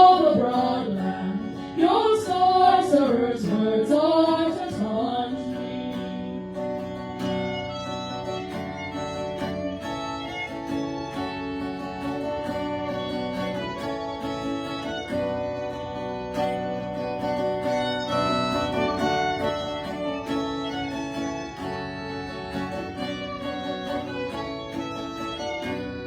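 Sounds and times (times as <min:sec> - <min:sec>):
acoustic guitar: 0:00.0 - 0:26.0
violin: 0:00.0 - 0:26.0.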